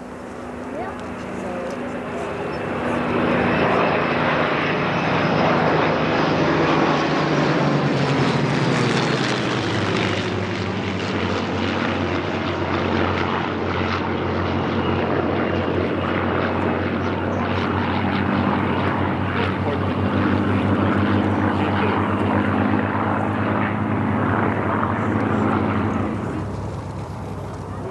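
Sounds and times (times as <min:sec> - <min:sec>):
propeller aircraft flying past: 0:00.0 - 0:27.9.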